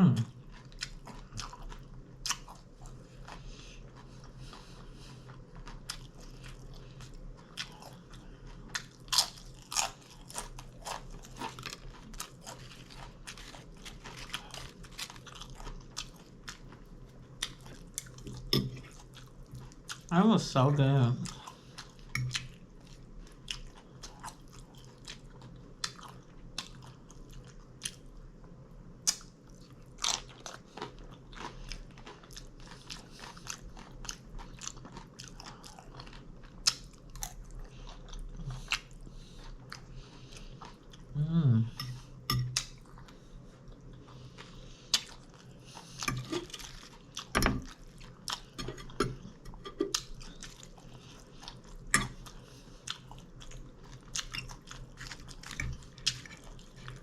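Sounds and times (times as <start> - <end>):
close chewing and crunching: 0.0 - 57.0.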